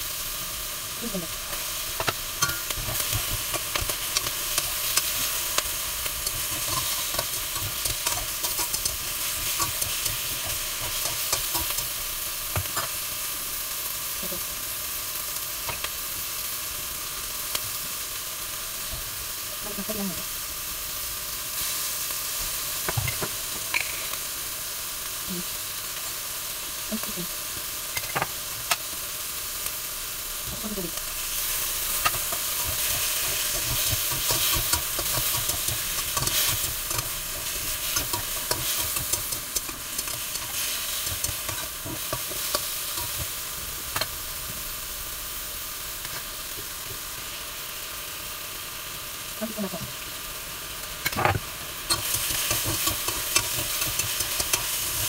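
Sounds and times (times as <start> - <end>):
tofu sizzling in hot oil: 0.0 - 55.0.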